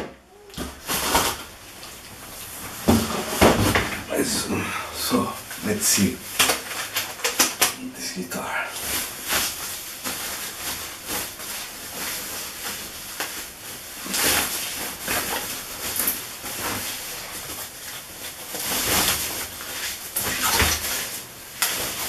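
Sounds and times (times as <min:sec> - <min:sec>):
plastic wrapping rustling: 0:00.3 - 0:22.0.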